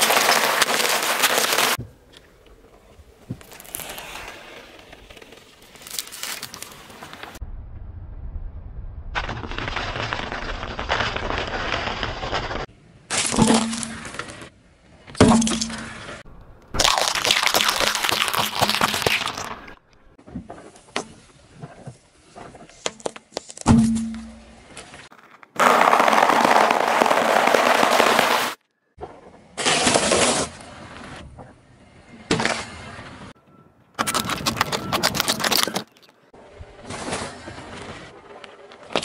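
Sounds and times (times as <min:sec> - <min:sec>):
objects crackling under tyre: 0:00.0 - 0:07.4, 0:09.1 - 0:31.5, 0:34.0 - 0:39.0.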